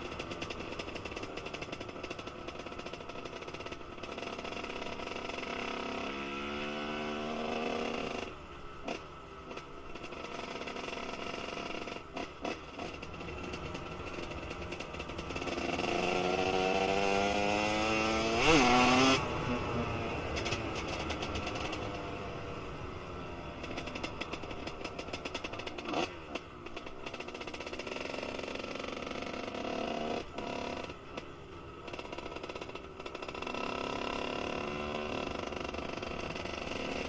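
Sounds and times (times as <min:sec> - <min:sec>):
two-stroke motorcycle engine revving: 0:00.0 - 0:08.3, 0:08.9 - 0:37.0.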